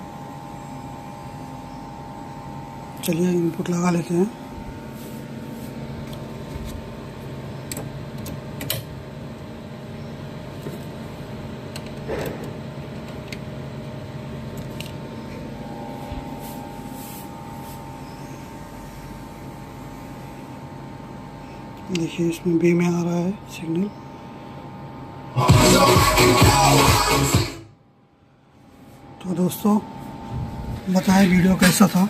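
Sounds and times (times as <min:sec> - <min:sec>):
amplifier electrical hum: 0:00.0 - 0:32.0.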